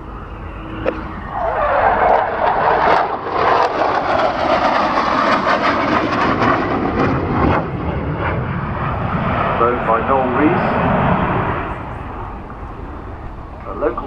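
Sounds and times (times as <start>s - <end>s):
aircraft engine noise: 0.0s - 14.0s.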